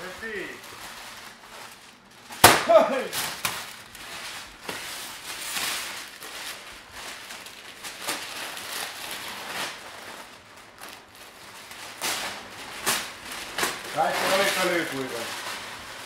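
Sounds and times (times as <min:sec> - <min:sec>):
paper and tape crackling: 0:00.0 - 0:16.0.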